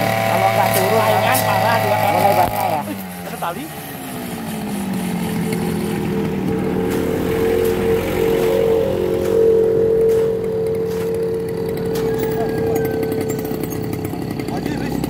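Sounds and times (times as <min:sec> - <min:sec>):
brush cutter engine drone: 0:00.0 - 0:15.0.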